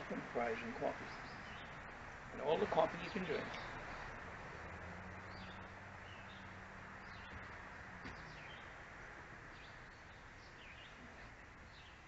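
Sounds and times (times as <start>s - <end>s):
birds chirping faintly: 0.0s - 12.0s
steady background hiss: 0.0s - 12.0s.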